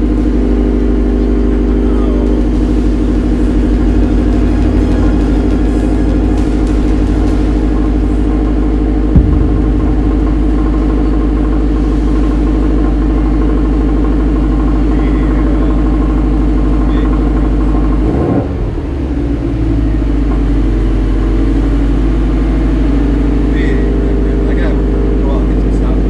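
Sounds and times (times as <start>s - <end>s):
car engine idling with deep rumble: 0.0s - 26.0s.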